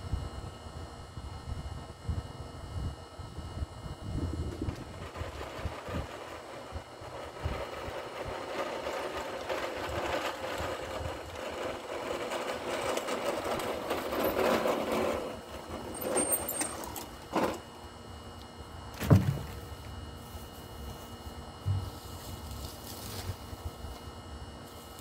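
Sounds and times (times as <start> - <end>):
small lawn equipment engine running: 3.7 - 25.0.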